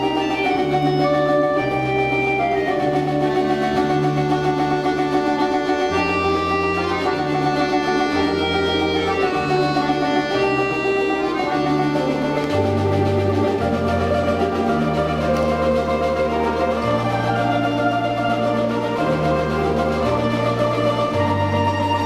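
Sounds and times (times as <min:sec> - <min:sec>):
plucked string folk orchestra: 0:00.0 - 0:22.0.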